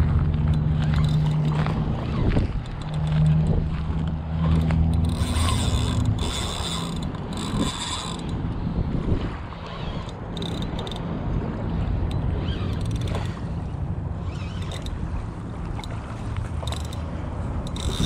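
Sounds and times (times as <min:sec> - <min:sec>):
fishing reel gears whirring: 0:00.0 - 0:18.0.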